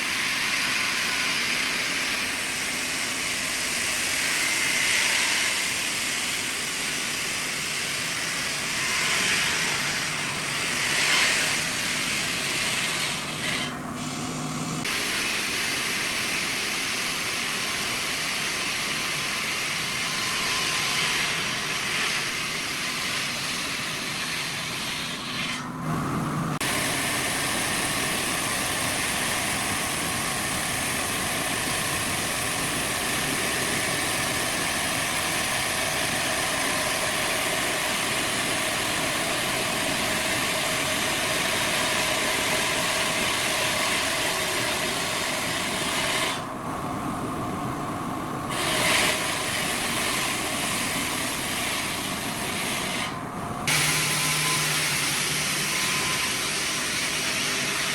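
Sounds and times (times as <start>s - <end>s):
heavy machinery hissing: 0.0s - 57.9s.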